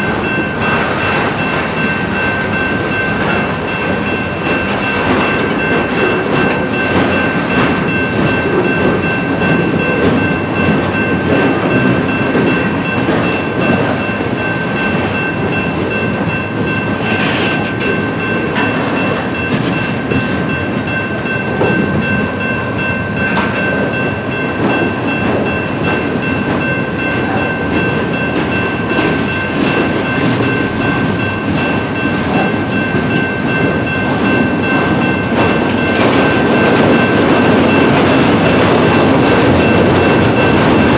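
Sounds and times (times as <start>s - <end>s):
crossing warning bell: 0.0s - 40.9s
train wheels rumbling on rails: 0.0s - 40.9s
wheels clacking: 0.0s - 40.9s.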